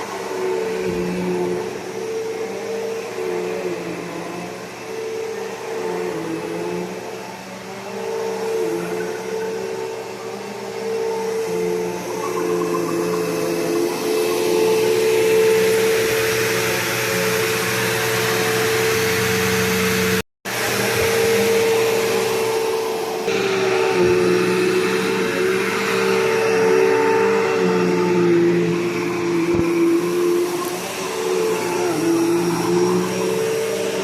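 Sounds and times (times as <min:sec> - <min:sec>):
vacuum cleaner motor whine: 0:00.0 - 0:34.0.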